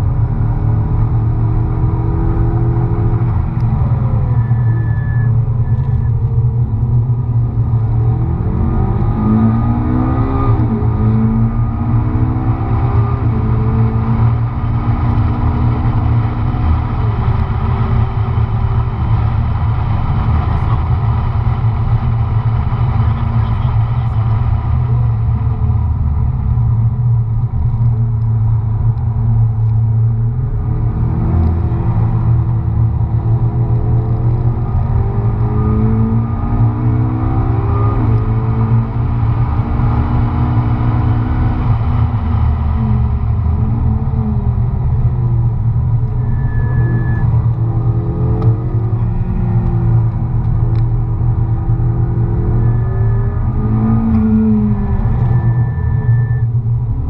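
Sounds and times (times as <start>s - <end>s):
car engine accelerating and shifting: 0.0s - 57.0s.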